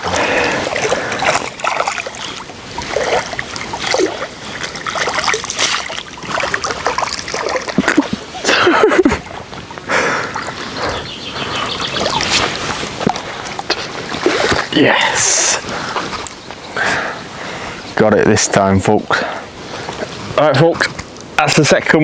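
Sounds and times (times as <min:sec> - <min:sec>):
water splashing and sloshing: 0:00.0 - 0:17.6, 0:18.5 - 0:21.4.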